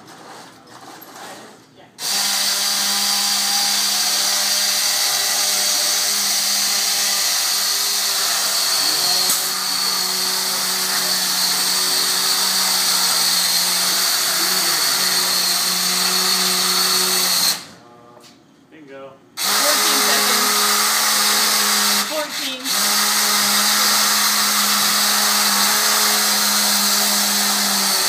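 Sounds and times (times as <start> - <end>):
electric winch motor whining: 2.0 - 17.8, 19.4 - 28.0.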